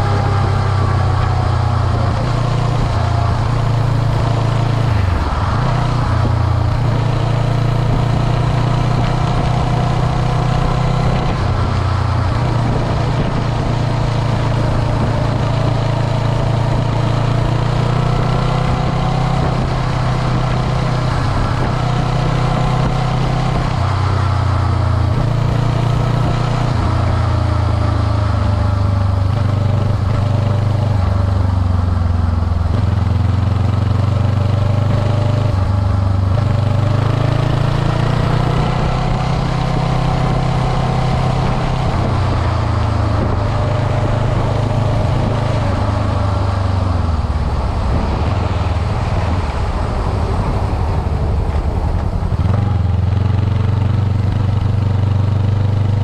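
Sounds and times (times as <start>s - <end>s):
wind on microphone: 0.0s - 31.4s, 32.4s - 54.8s
motorcycle engine running: 0.0s - 56.0s.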